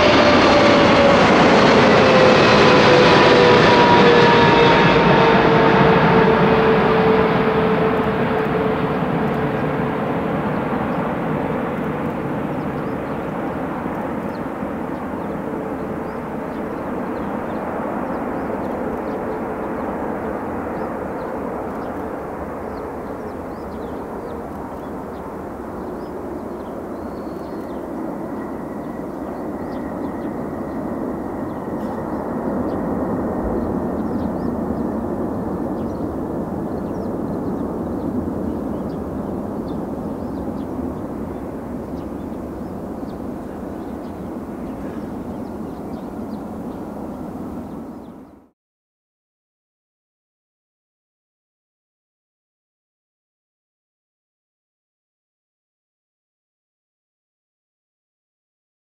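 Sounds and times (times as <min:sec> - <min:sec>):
jet engine roar with whine: 0:00.0 - 0:48.5.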